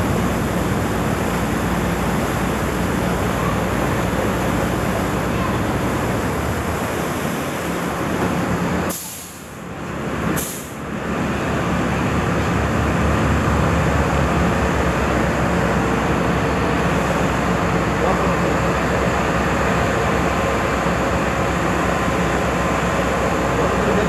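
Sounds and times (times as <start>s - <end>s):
ferry engines rumbling: 0.0s - 24.0s.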